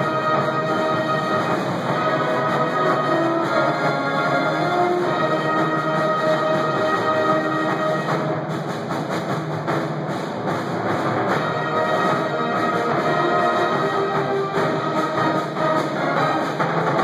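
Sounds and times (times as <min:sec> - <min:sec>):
percussion hits: 0:00.0 - 0:17.0.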